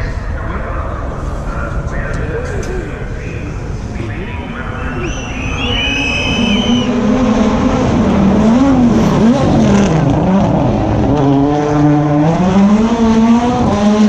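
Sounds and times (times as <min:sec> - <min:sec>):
rally car engine accelerating: 0:00.0 - 0:14.0.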